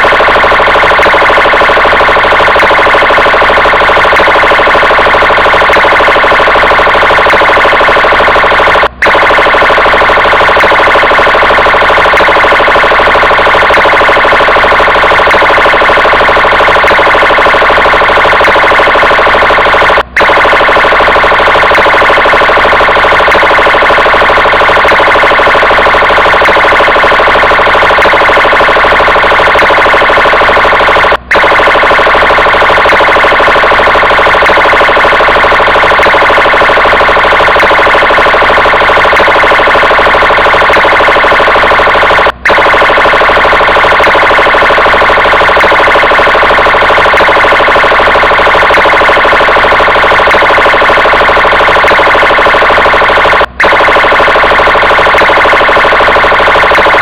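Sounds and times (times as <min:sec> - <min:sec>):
police car siren: 0:00.0 - 0:57.0.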